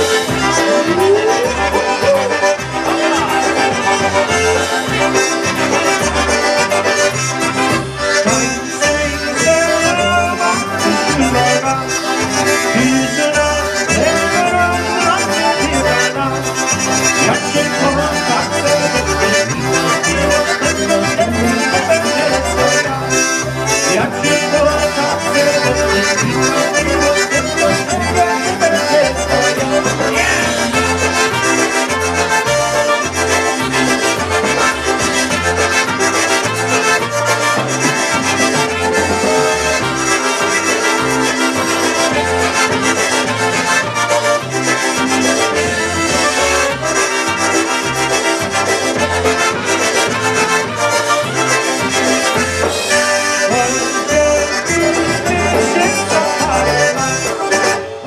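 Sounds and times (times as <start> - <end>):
accordion: 0.0 - 58.0
drums: 0.0 - 58.0
electric bass: 0.0 - 58.0
trumpets: 0.0 - 58.0.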